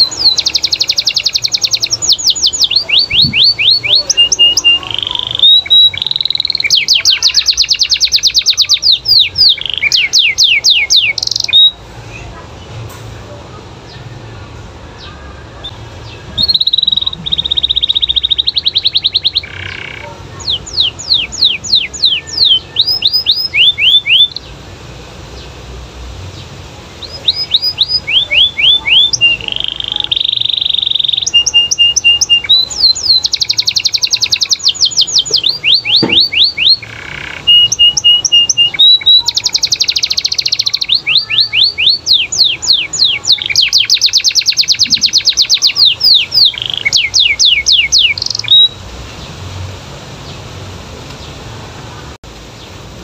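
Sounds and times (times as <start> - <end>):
canary singing: 0.0 - 12.8, 13.8 - 25.6, 26.2 - 49.6.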